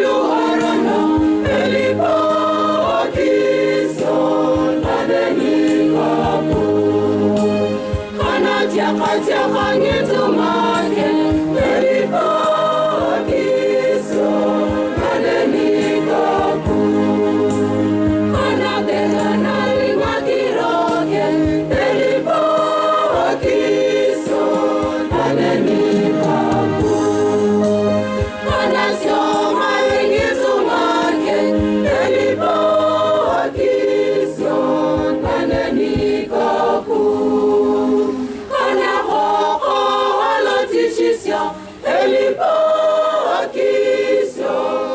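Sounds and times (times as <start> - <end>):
choir singing a hymn: 0.0 - 44.9.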